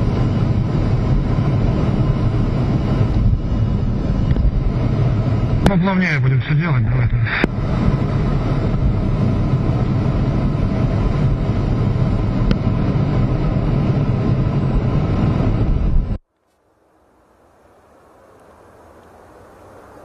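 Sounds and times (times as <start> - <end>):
jet engines in cockpit: 0.0 - 16.2, 17.0 - 20.0
rushing airflow: 0.0 - 16.2.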